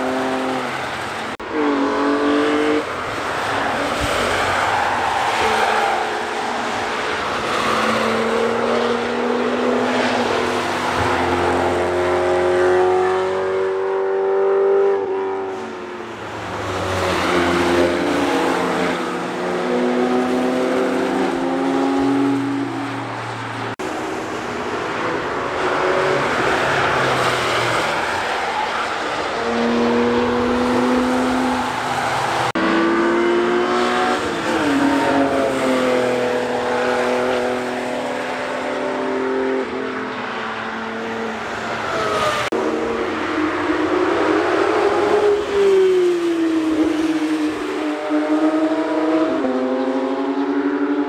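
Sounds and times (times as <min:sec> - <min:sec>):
race cars passing: 0:00.0 - 0:51.0.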